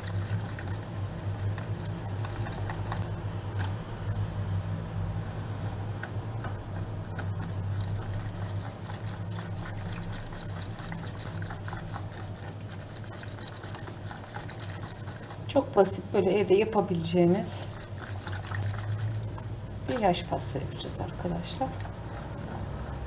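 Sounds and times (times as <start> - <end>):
whisk ticking against bowl: 0.0 - 3.8, 6.4 - 23.0
whisk sloshing liquid: 0.0 - 4.2, 6.0 - 23.0
steady low hum: 0.0 - 23.0.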